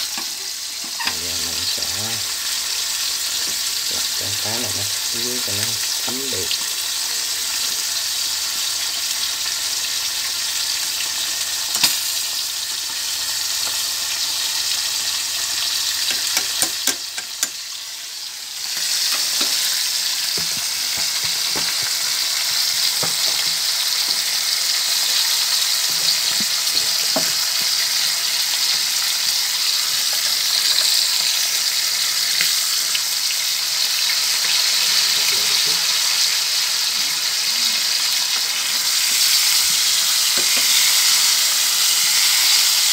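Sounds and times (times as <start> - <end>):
fish sizzling in hot oil: 0.0 - 42.9.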